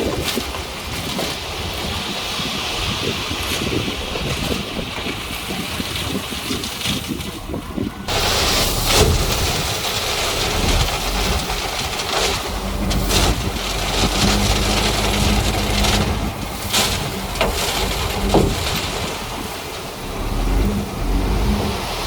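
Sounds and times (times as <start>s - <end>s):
bulldozer diesel engine rumbling: 0.0s - 22.0s
wind buffeting microphone: 0.0s - 22.0s.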